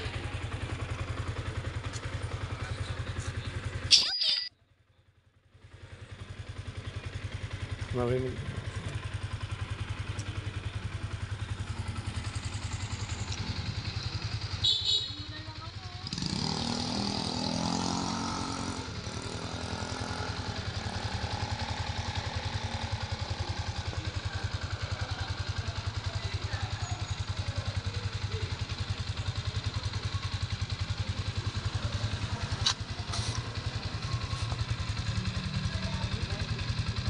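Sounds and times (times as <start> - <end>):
motorcycle engine idling: 0.0 - 4.0, 4.6 - 37.0.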